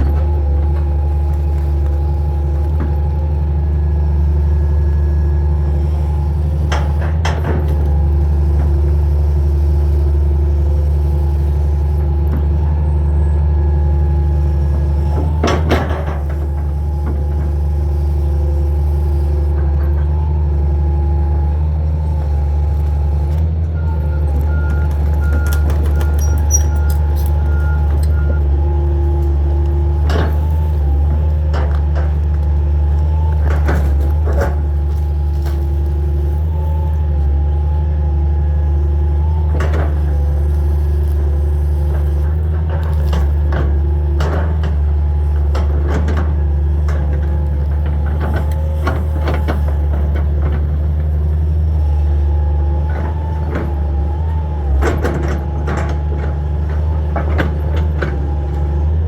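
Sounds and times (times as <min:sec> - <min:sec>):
excavator diesel engine: 0:00.0 - 0:59.0
hydraulic whine: 0:05.0 - 0:59.0.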